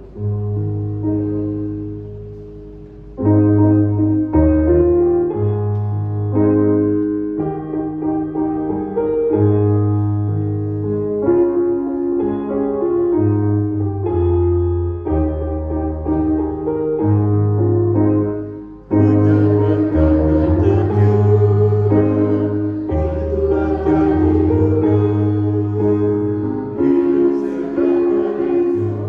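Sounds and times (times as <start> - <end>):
keyboard playing slow hymn chords: 0.0 - 29.0.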